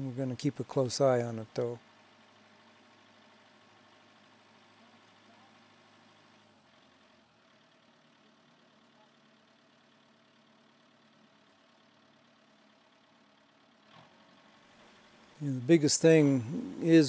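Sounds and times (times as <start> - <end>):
faint engine hum: 0.0 - 17.0.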